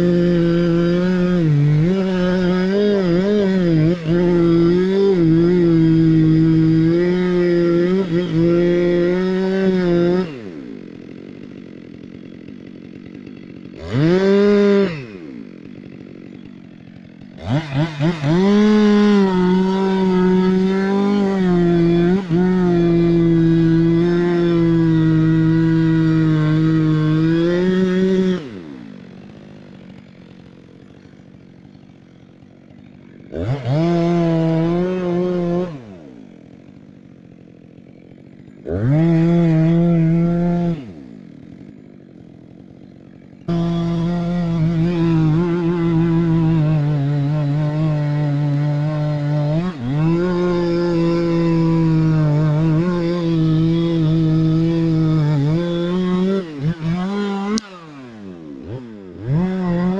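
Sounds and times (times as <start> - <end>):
chainsaw cutting tree trunk: 0.0 - 59.9.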